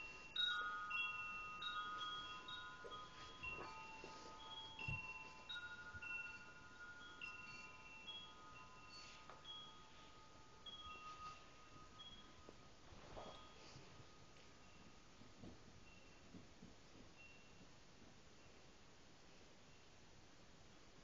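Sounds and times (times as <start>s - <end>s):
chimes ringing: 0.0s - 16.4s, 17.1s - 17.7s.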